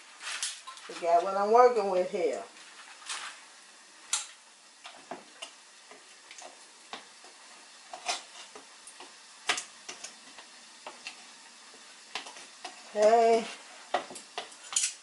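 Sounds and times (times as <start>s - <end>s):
oil frying hiss: 0.0s - 15.0s.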